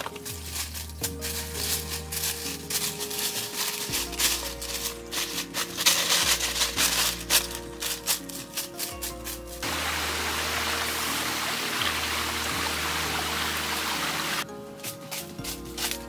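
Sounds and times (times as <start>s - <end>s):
background music with bass line: 0.0s - 16.0s
dry leaves crunching: 0.0s - 16.0s.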